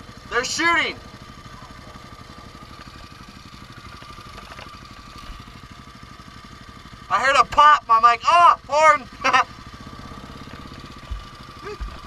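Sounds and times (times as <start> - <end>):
thin steady whine: 0.0 - 6.2, 7.1 - 12.0
vehicle engine idling: 0.0 - 12.0.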